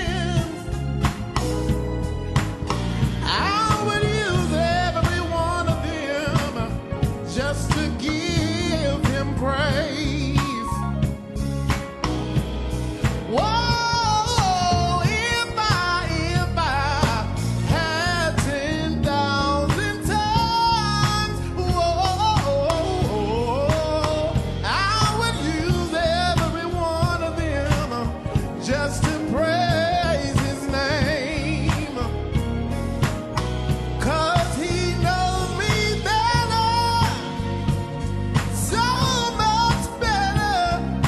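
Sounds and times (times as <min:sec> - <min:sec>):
drums: 0:00.0 - 0:41.0
electric bass: 0:00.0 - 0:41.0
keyboard: 0:00.0 - 0:41.0
sliding lead melody: 0:00.0 - 0:41.0.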